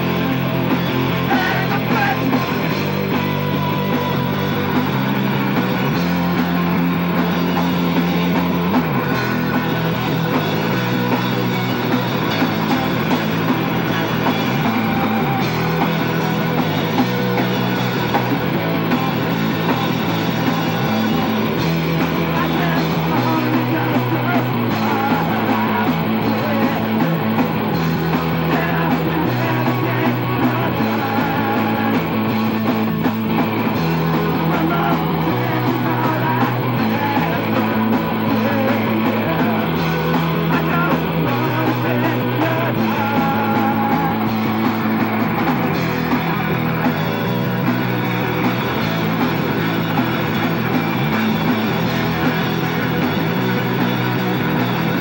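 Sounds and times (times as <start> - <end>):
bass line: 0.0 - 55.0
drum kit: 0.0 - 55.0
electric guitars: 0.0 - 55.0.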